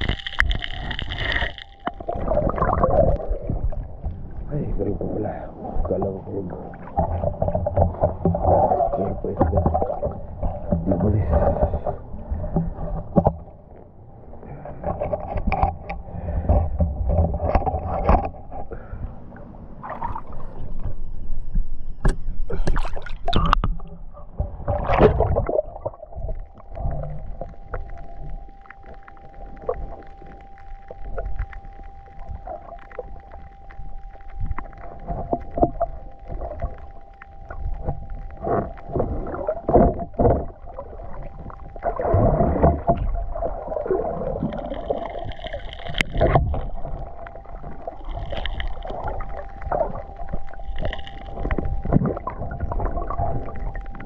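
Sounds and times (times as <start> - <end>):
water sloshing and splashing: 0.0 - 19.0, 19.7 - 54.0.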